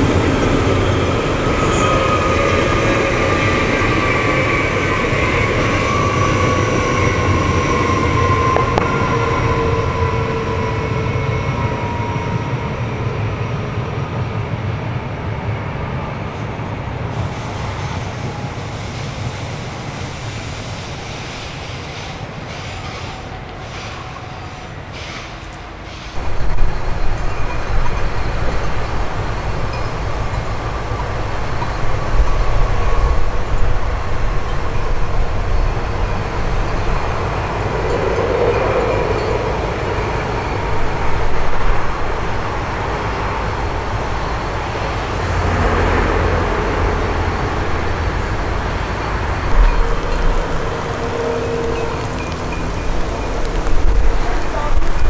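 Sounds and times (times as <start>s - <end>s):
distant train rumbling: 0.0s - 55.0s.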